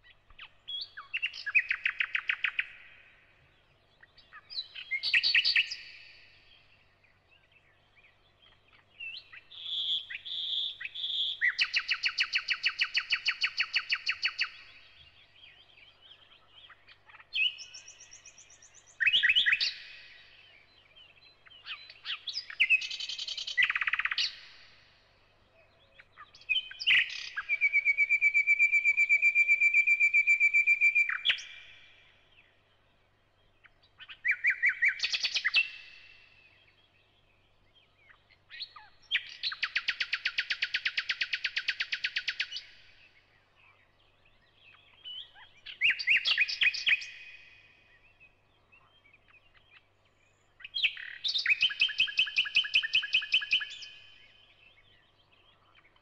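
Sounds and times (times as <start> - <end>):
nightingale singing: 0.0 - 56.0.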